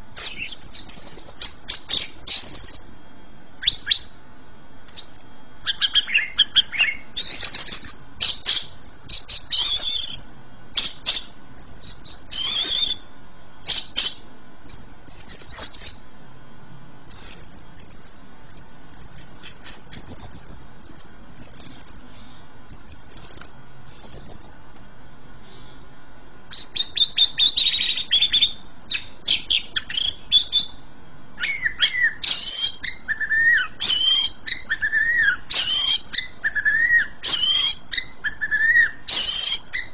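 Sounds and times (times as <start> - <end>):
bird chirping and whistling: 0.2 - 3.0, 3.6 - 4.2, 4.9 - 16.1, 17.1 - 22.1, 22.7 - 24.6, 26.5 - 30.8, 31.4 - 39.9.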